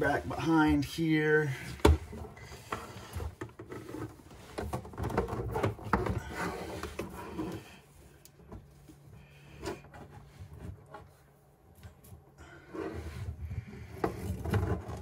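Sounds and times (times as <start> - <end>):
rubber hose rubbing and scraping: 0.0 - 11.6, 12.4 - 15.0.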